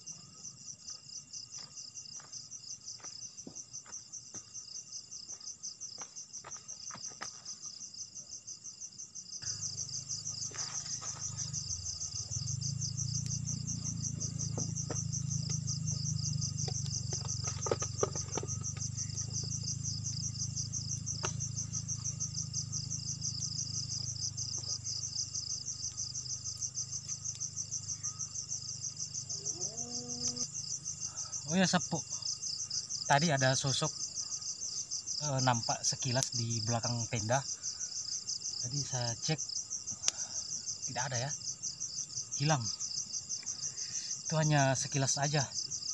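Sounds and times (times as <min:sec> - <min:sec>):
insects chirping in a trill: 0:00.0 - 0:45.9.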